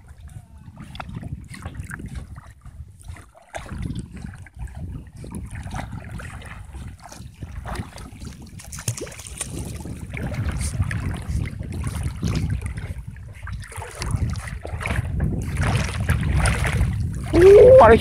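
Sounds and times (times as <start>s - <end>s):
water sloshing and splashing: 0.0s - 18.0s
wind buffeting microphone: 0.0s - 18.0s.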